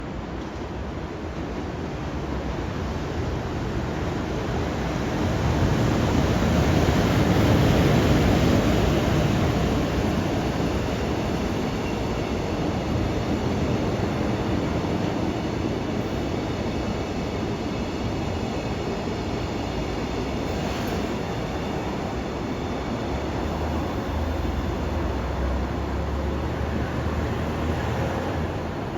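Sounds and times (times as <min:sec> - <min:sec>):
freight train wheels rumbling: 0:00.0 - 0:28.9.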